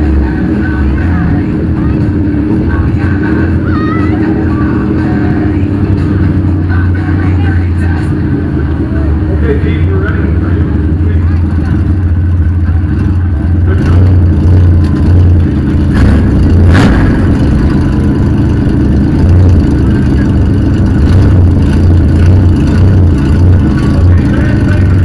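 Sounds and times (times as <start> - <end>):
van engine idling loudly: 0.0 - 25.0.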